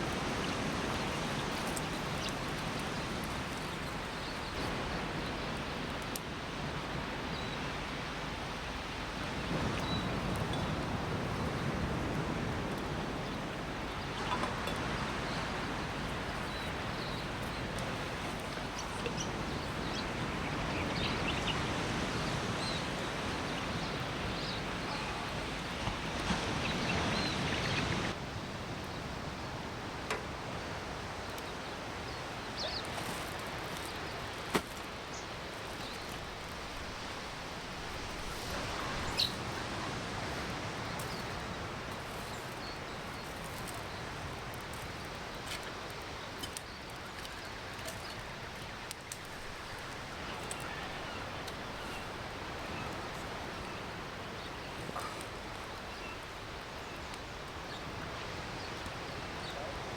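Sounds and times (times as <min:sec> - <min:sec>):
campfire crackling: 0:00.0 - 0:07.2, 0:09.1 - 0:26.7, 0:27.4 - 0:59.4.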